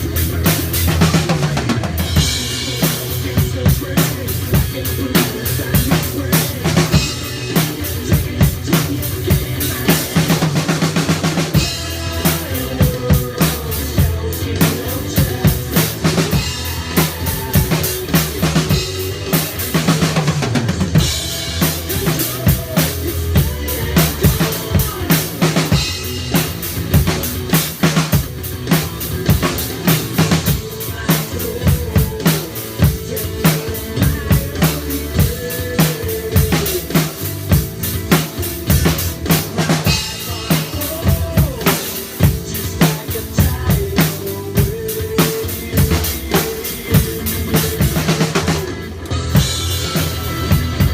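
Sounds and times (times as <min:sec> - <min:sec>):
bass line: 0:00.0 - 0:50.9
drum kit rock beat: 0:00.0 - 0:50.9.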